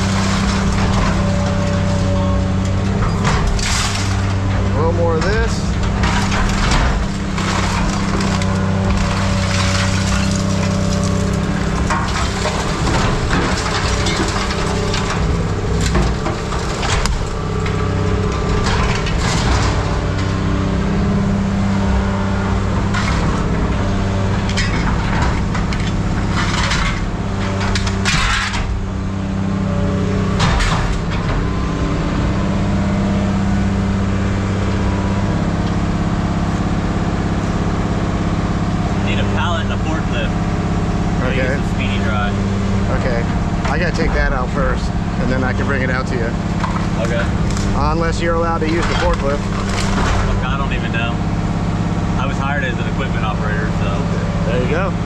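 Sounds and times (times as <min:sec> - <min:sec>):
heavy machine engine running: 0:00.0 - 0:55.0
scrap metal crunching and clanking: 0:00.0 - 0:55.0.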